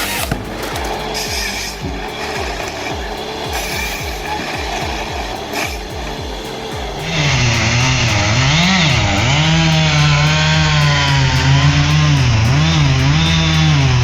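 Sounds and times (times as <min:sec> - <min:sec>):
background music: 0:00.0 - 0:14.0
chainsaw cutting: 0:00.0 - 0:14.0.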